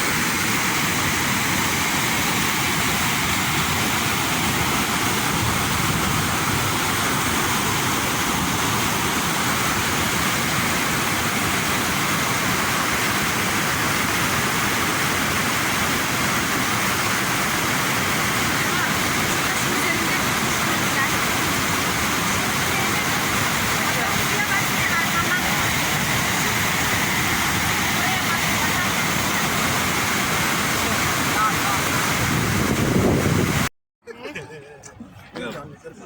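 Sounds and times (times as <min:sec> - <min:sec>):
rushing water roar: 0:00.0 - 0:33.7.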